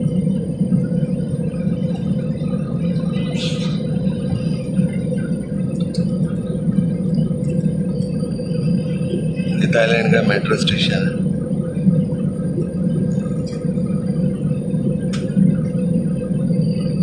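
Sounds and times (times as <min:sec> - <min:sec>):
jet engine drone: 0:00.0 - 0:17.0
steady cabin hum: 0:00.0 - 0:17.0.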